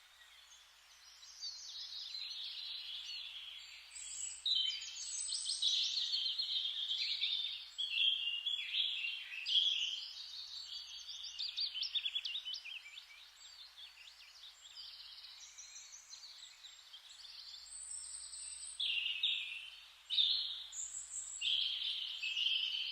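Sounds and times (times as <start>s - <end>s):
birds chirping and singing: 0.3s - 22.9s.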